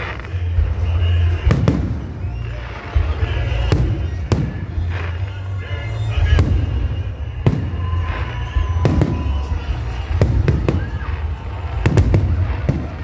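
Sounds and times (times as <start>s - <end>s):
fireworks bursting with sharp bangs: 0.0s - 13.0s
steady low rumble: 0.0s - 13.0s.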